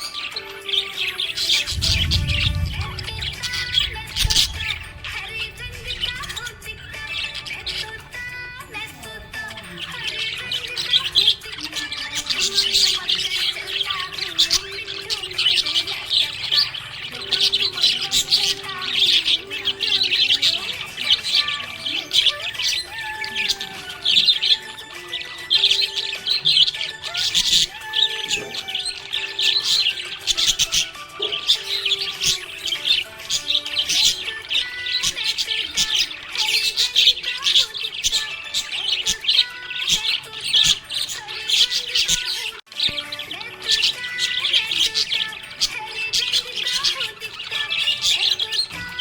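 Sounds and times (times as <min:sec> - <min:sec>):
budgerigars chirping: 0:00.0 - 0:49.0.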